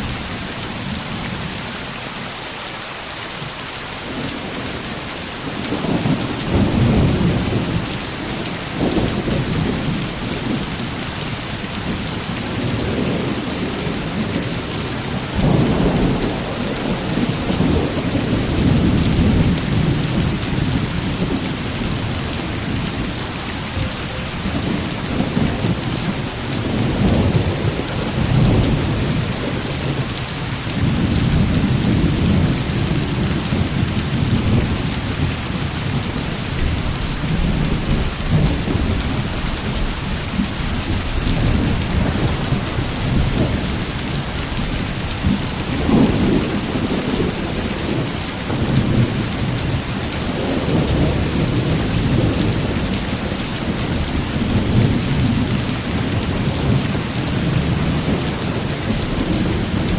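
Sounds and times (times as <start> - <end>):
heavy rain falling: 0.0 - 59.9
rolling thunder: 11.8 - 59.9.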